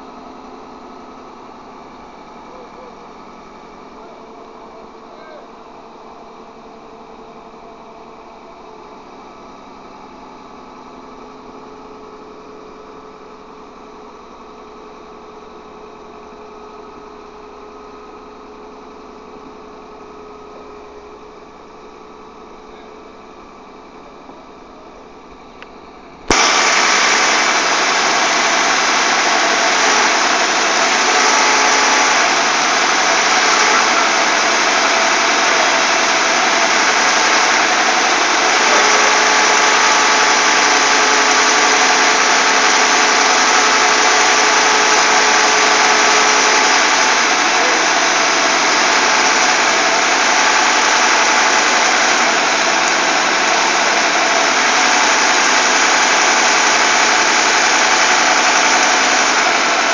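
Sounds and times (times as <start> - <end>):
crane engine running: 0.0 - 59.9.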